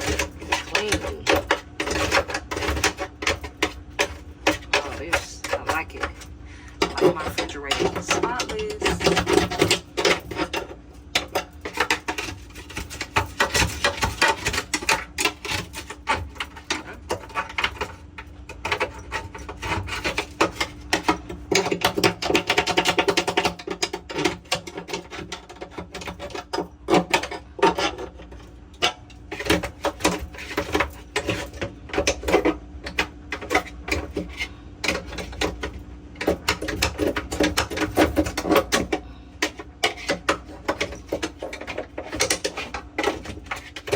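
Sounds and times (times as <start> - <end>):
clicks and clatters: 0.0 - 43.9.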